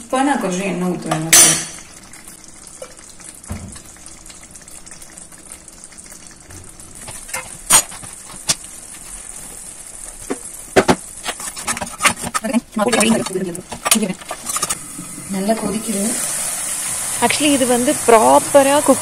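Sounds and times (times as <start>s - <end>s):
chutney sizzling and bubbling: 0.0s - 19.0s.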